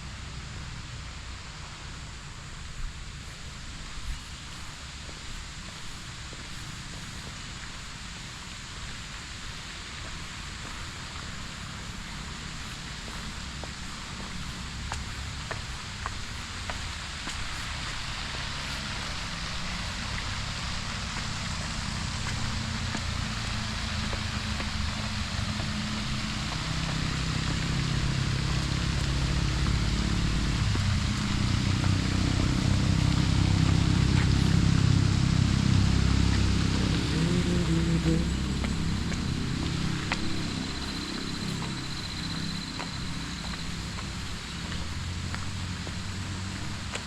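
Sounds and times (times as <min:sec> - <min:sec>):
outdoor hiss: 0:00.0 - 0:47.0
vehicle engine rumble: 0:00.0 - 0:47.0.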